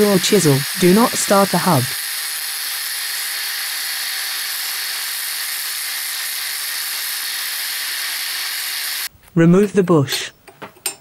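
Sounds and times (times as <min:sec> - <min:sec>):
grinder cutting metal: 0:00.0 - 0:09.1.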